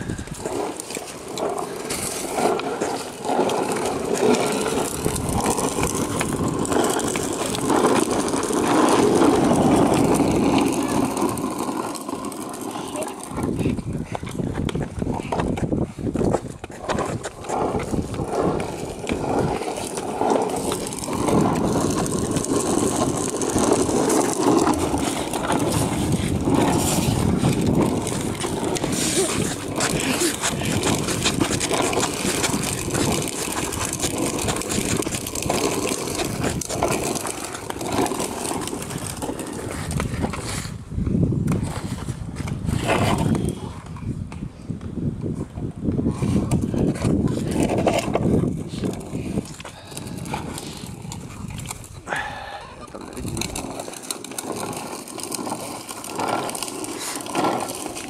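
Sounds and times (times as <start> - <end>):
wheels rolling on rough asphalt: 0.0 - 58.0.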